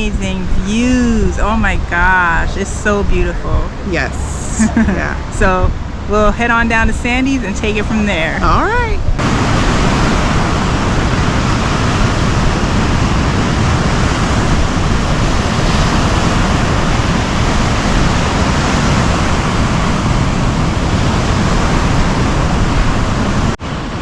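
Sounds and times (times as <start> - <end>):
ocean surf: 0.0 - 24.0
wind blowing across microphone: 0.0 - 24.0.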